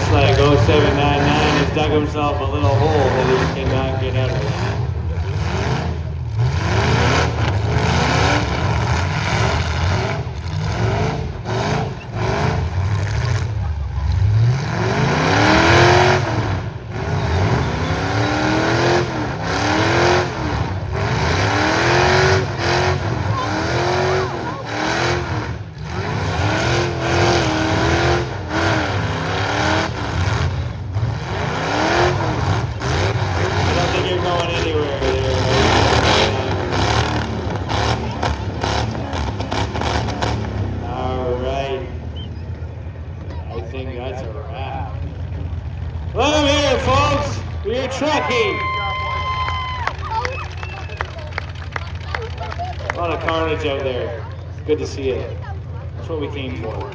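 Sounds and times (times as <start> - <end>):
truck engines revving hard: 0.0 - 56.9.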